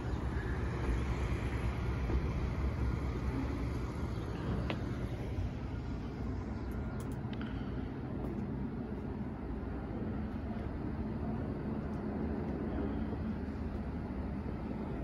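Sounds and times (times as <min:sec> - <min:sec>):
distant street traffic rumble: 0:00.0 - 0:15.0.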